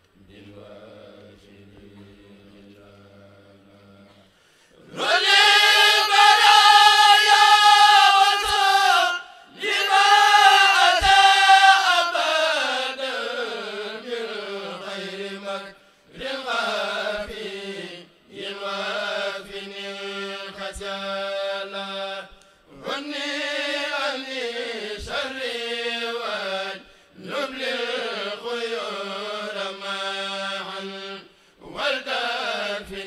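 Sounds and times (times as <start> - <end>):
group of men chanting: 4.8 - 33.0.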